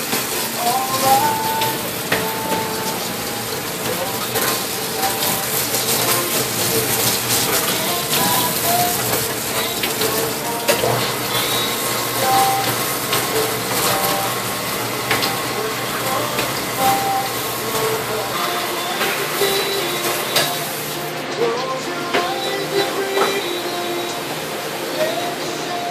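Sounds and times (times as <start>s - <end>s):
water spray hissing: 0.0s - 21.2s
pump humming: 0.0s - 25.9s.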